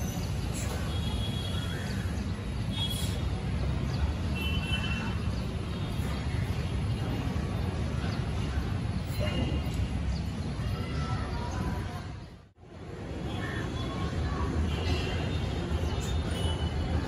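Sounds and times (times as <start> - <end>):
low urban rumble: 0.0 - 17.0.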